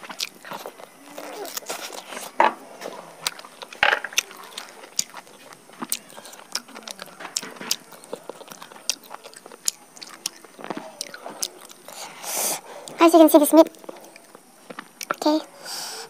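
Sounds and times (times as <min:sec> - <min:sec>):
chewing and biting chicken: 0:00.0 - 0:13.0.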